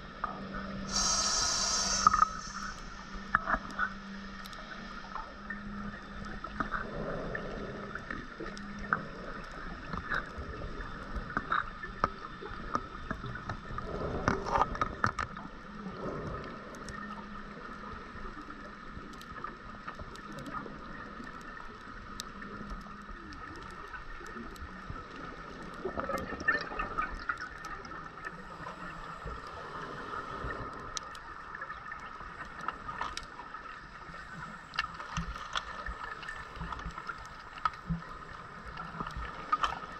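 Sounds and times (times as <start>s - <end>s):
underwater hiss and hum: 0.0s - 39.9s.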